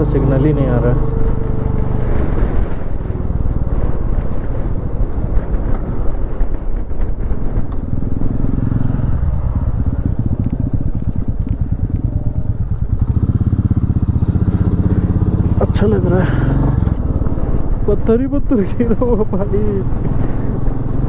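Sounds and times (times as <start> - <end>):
motorcycle engine thumping: 0.0 - 18.4
wind buffeting microphone: 0.0 - 21.0.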